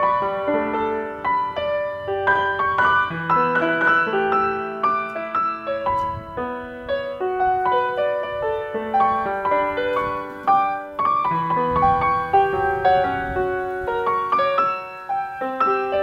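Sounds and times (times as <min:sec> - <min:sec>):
keyboard melody: 0:00.0 - 0:16.0.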